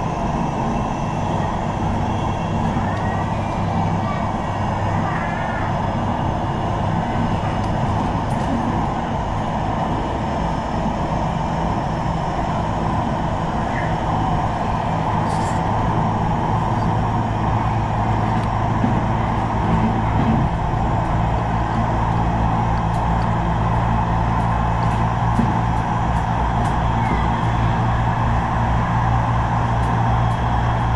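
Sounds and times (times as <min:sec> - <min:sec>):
low motor hum: 0:00.0 - 0:30.9
tram wheels rumbling on rails: 0:00.0 - 0:30.9.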